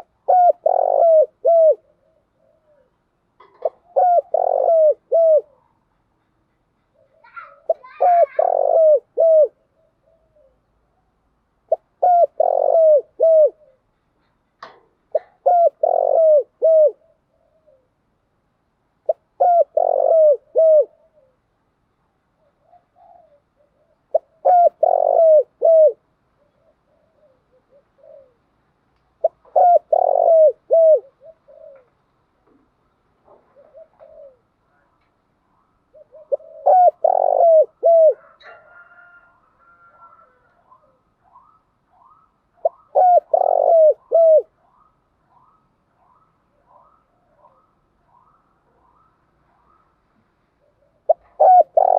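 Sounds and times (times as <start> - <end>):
dove cooing: 0.0 - 5.8, 6.9 - 14.0, 14.6 - 18.0, 19.0 - 21.5, 22.4 - 28.6, 29.2 - 35.0, 35.8 - 50.0, 50.6 - 51.9.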